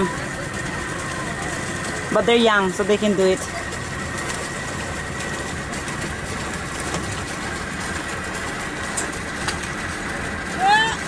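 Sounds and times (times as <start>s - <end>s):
small boat motor running: 0.0s - 11.0s.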